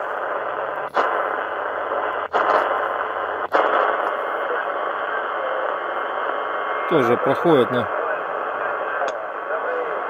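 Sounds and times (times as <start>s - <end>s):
shortwave radio band noise: 0.0s - 10.0s.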